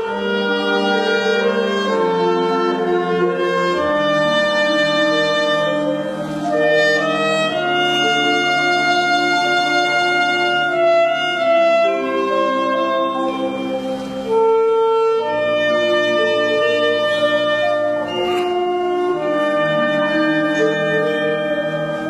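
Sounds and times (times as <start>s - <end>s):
wind band playing chords: 0.0s - 22.0s.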